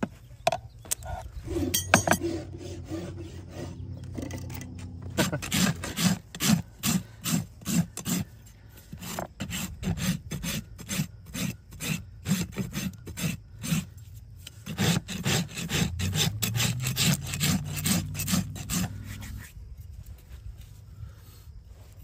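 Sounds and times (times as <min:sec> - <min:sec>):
hoof rasp strokes: 0:01.0 - 0:04.2, 0:05.0 - 0:19.6.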